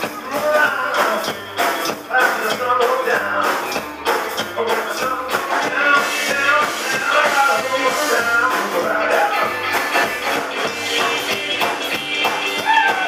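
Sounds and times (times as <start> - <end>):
double bass: 0.0 - 12.8
drum kit: 0.0 - 13.0
electric guitar: 0.0 - 13.0.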